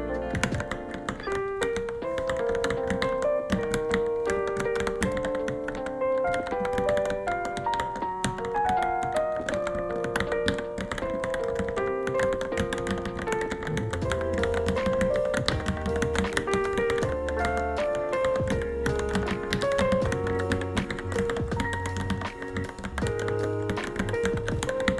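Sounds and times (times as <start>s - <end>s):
keyboard typing clicks: 0.0s - 24.9s
melodic background music: 0.0s - 24.9s.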